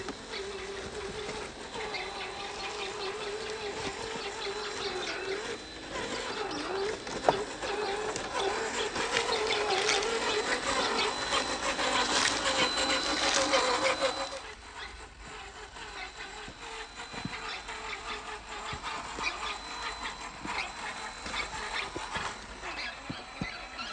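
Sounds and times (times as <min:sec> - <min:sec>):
toy car electric motor whining: 0:00.0 - 0:23.9.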